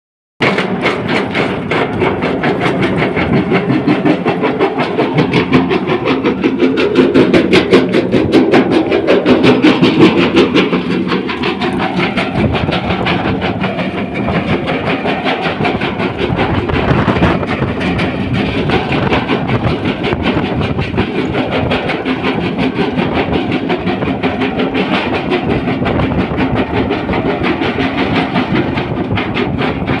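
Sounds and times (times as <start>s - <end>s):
crusher bucket rhythmic clatter: 0.4s - 30.0s
steady machinery noise: 0.4s - 30.0s.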